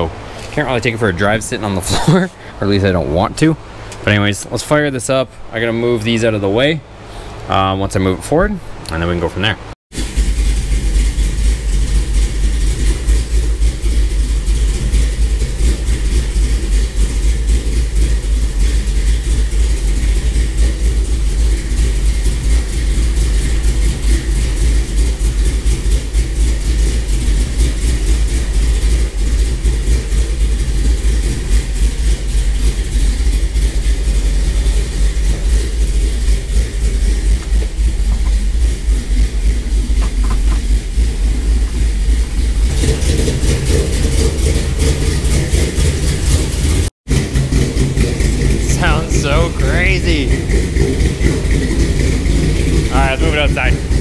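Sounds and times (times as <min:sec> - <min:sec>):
engine idling with choppy rumble: 0:00.0 - 0:54.0.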